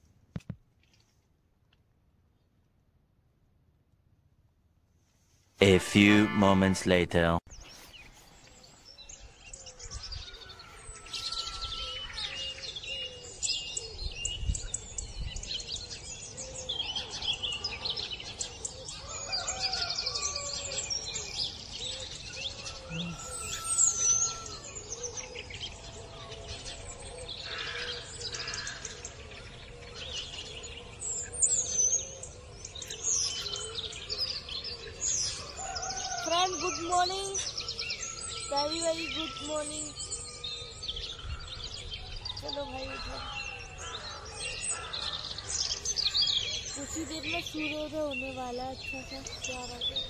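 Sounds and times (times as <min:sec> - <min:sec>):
birds chirping and singing: 0:05.6 - 0:50.0.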